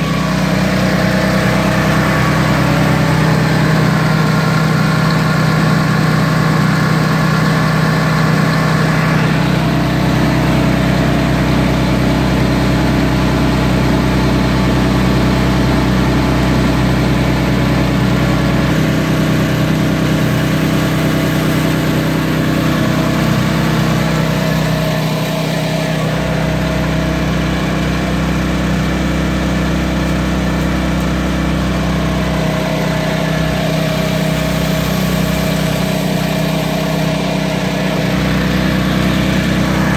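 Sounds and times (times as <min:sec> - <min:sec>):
gas engine running pump: 0:00.0 - 0:39.9.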